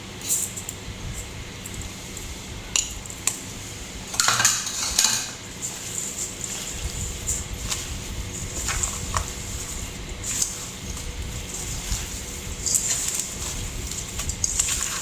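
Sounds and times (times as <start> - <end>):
utensils clinking against dishes: 0.2 - 1.9, 4.1 - 15.0.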